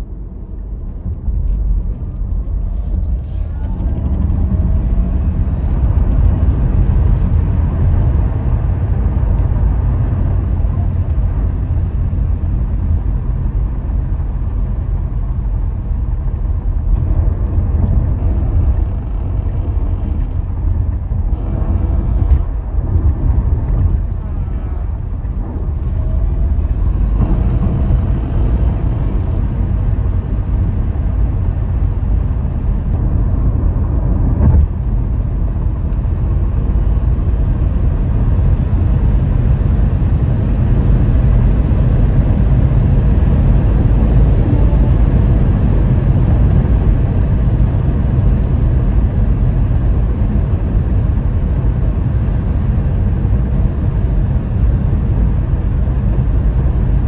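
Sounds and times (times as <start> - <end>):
low rumble of tyres and wind: 0.0 - 57.0.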